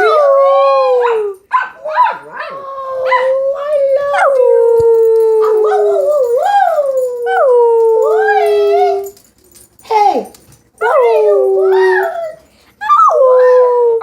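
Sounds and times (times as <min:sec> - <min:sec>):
dog howling: 0:00.0 - 0:09.2, 0:10.8 - 0:14.0.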